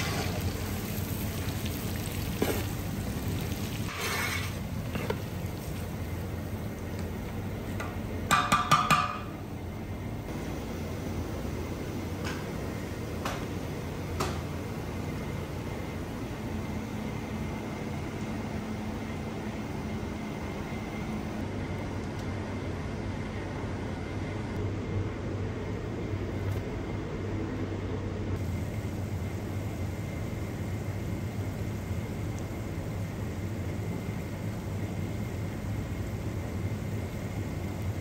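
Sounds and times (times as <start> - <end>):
kitchen equipment humming: 0.0 - 38.0.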